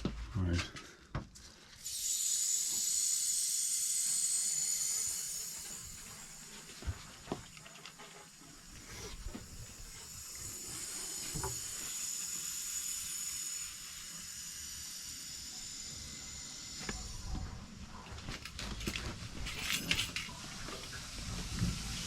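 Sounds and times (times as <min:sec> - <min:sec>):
water hissing through pipes: 0:01.6 - 0:17.3, 0:19.4 - 0:22.0.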